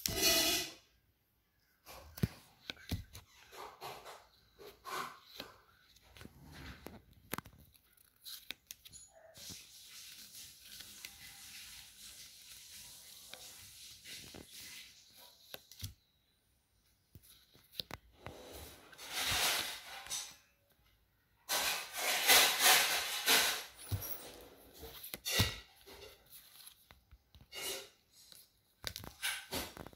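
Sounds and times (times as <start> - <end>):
trading cards shuffling: 1.9 - 16.0, 17.0 - 20.3, 21.6 - 29.9.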